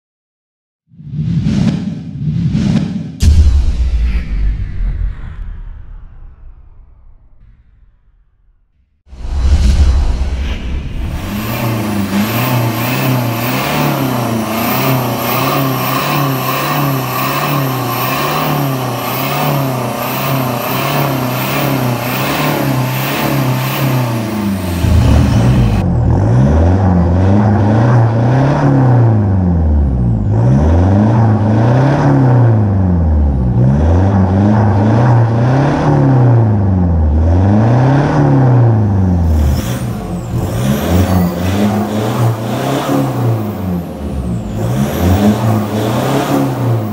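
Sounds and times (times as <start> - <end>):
diesel engine idling and revving: 9.1 - 46.9.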